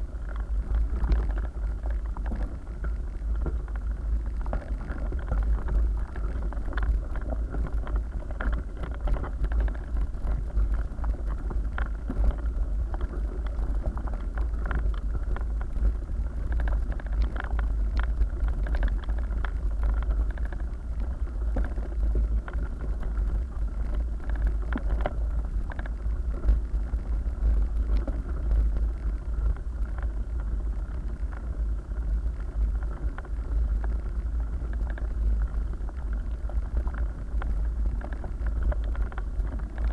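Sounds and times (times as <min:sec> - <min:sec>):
bike vibration rumble: 0:00.0 - 0:39.9.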